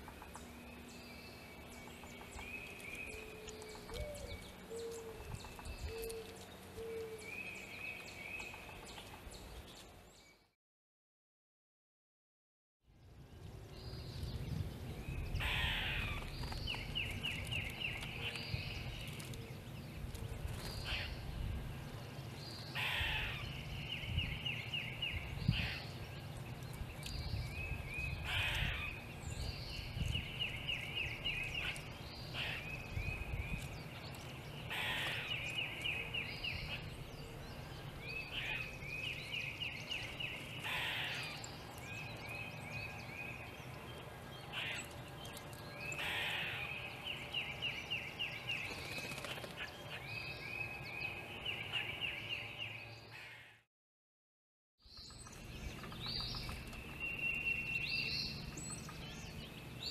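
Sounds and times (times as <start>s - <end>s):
bird trilled song: 0.0s - 10.5s, 13.0s - 53.5s, 54.8s - 59.9s.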